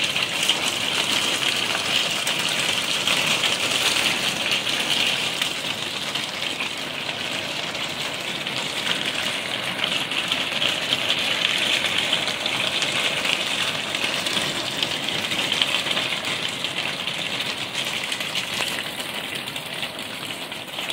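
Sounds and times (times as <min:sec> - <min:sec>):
hailstones falling on patio: 0:00.0 - 0:20.9.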